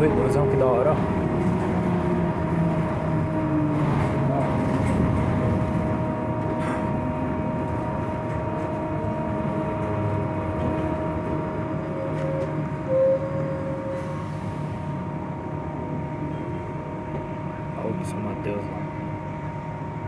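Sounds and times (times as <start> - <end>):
bus rumble and rattle: 0.0 - 20.0.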